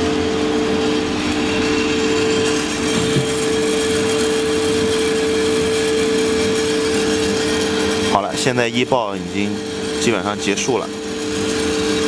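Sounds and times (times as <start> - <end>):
coffee roaster humming and whirring: 0.0 - 12.0.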